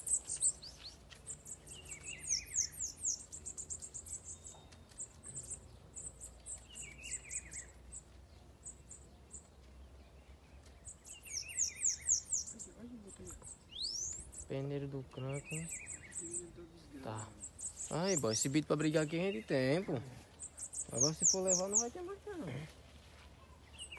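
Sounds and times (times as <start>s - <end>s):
descending bird twittering: 0.0s - 22.7s, 23.4s - 23.9s
songbirds chirping: 0.0s - 23.9s.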